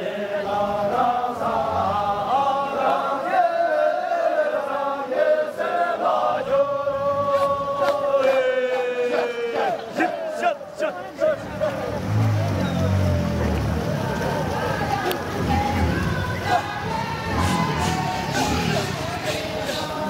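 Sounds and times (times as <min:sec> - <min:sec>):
men singing in unison: 0:00.0 - 0:13.4, 0:14.2 - 0:20.0.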